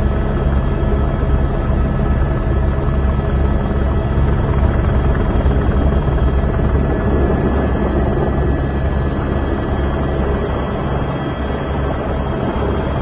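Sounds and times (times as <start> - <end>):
helicopter rotor thrum: 0.0 - 13.0.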